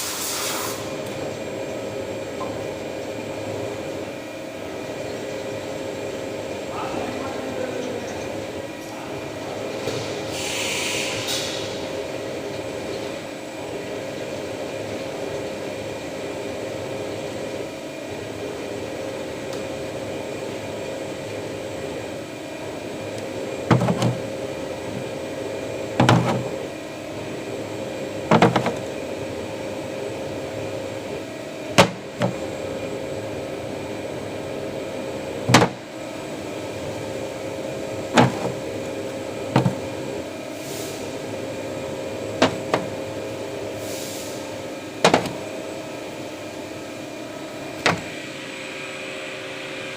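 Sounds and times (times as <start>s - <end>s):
cnc machine humming and whining: 0.9s - 49.9s.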